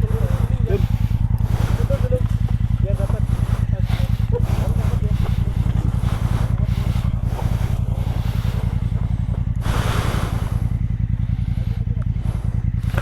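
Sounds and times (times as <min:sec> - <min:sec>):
rush of noise: 0:00.0 - 0:10.8
motorcycle engine idling: 0:00.0 - 0:13.0.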